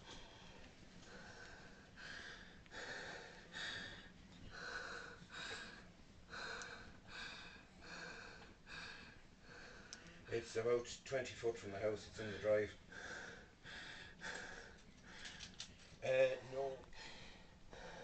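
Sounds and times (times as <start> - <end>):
person breathing hard: 0.0 - 10.3, 12.4 - 16.0, 16.8 - 18.0.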